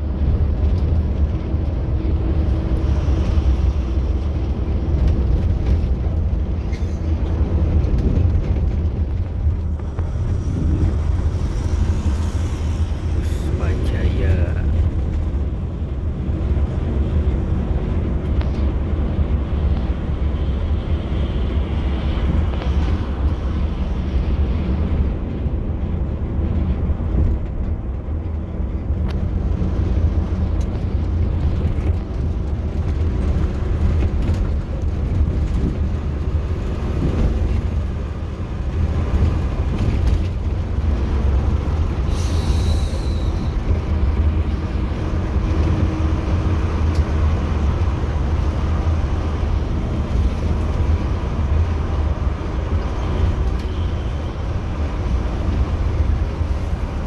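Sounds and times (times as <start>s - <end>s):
bus engine drone: 0.0s - 57.0s
road rumble: 0.0s - 57.0s.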